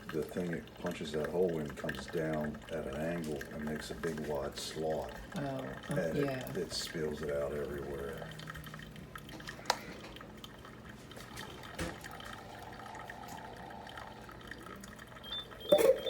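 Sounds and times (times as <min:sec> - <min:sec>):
low steady hum: 0:00.0 - 0:16.0
water dripping and trickling: 0:00.0 - 0:16.0.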